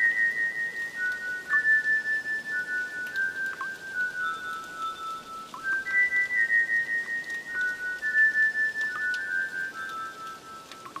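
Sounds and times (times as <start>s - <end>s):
faint drips: 0.0s - 11.0s
steady rain hiss: 0.0s - 11.0s.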